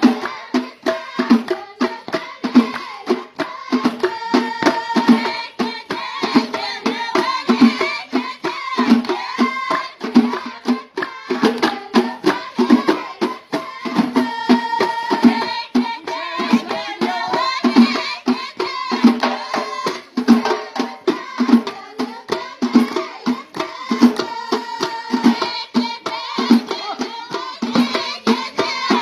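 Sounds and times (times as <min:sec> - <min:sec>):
frame drums beating: 0:00.0 - 0:29.0
group singing: 0:00.0 - 0:29.0.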